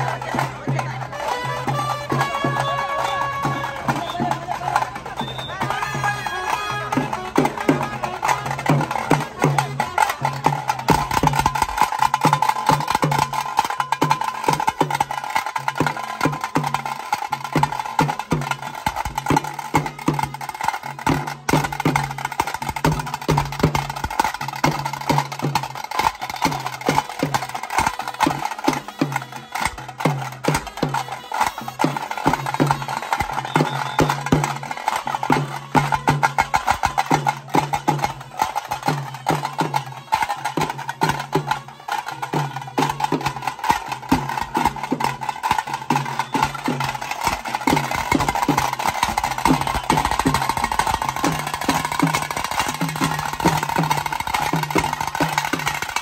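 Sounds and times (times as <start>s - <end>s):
drum sticks striking fast: 5.8s - 56.0s.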